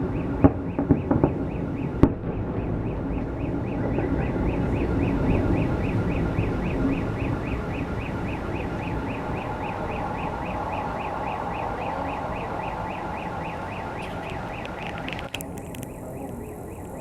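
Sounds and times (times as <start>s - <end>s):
car alarm siren warbling: 0.0s - 17.0s.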